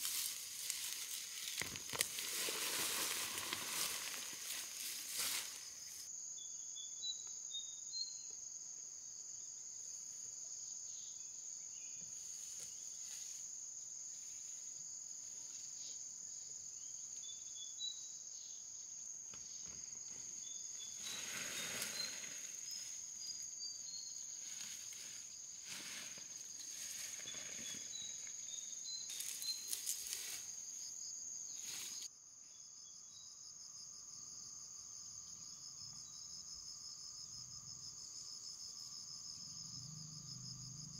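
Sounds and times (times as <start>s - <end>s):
insects chirping chorus: 0.0s - 40.9s.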